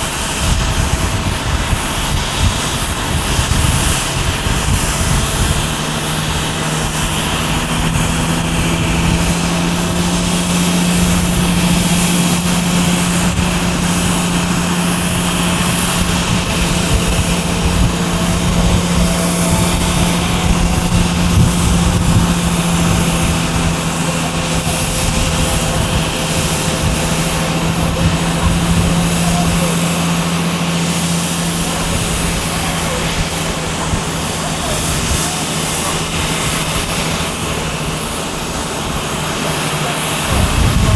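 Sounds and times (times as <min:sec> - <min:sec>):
constant low hum: 0:00.0 - 0:40.9
jet engines at takeoff thrust: 0:00.0 - 0:40.9.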